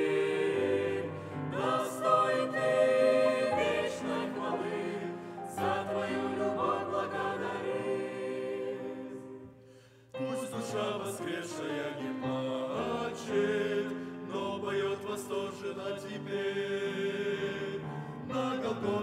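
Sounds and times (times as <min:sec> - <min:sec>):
mixed choir singing a hymn: 0:00.0 - 0:09.6, 0:10.2 - 0:19.0.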